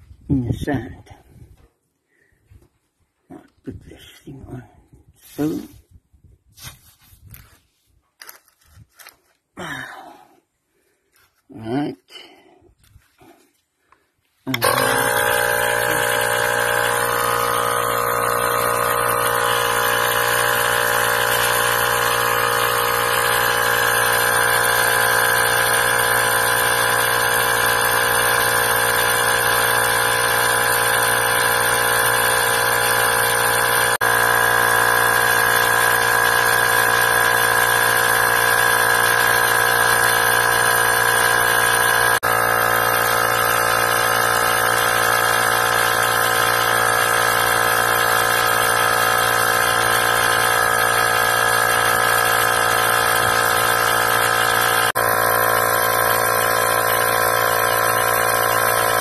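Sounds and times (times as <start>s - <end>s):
small air compressor running: 3.7s - 6.0s, 8.2s - 59.0s.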